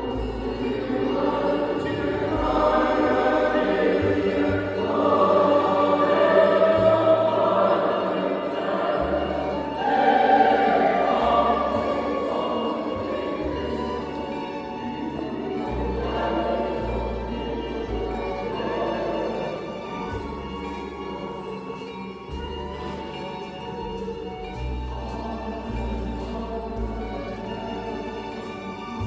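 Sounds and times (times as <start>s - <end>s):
choir singing: 0.0s - 29.0s
instrumental accompaniment: 0.0s - 29.0s.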